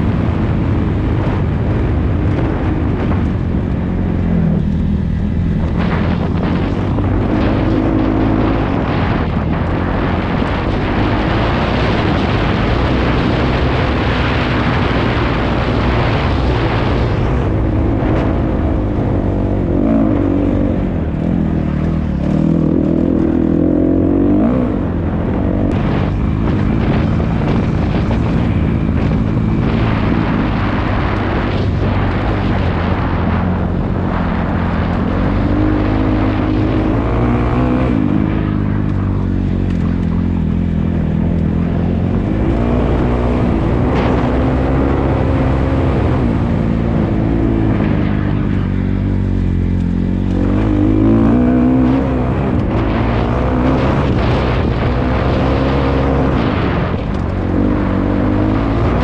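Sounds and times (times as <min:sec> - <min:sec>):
dirt bike engine revving: 0:04.4 - 0:59.0.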